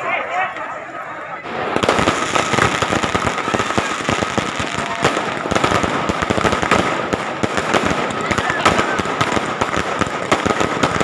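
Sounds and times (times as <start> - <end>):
fireworks crackling: 1.4 - 11.0.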